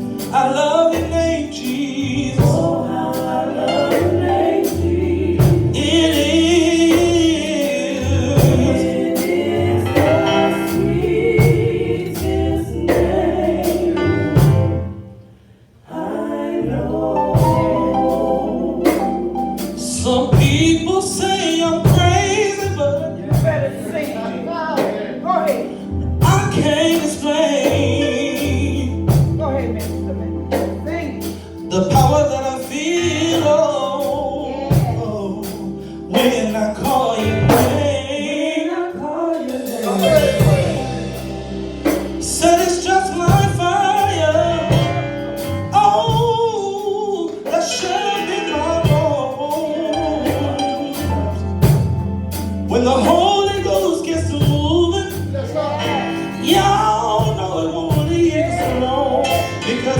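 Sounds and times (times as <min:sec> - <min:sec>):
singers with gospel band: 0:00.0 - 0:59.9.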